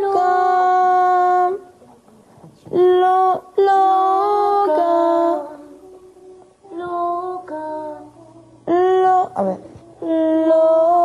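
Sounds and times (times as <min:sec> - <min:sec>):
woman singing a cappella: 0:00.0 - 0:11.0.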